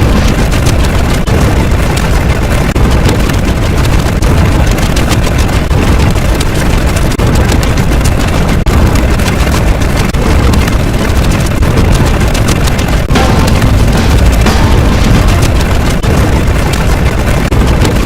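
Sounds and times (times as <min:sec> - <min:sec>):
loud continuous rumbling: 0:00.0 - 0:18.0.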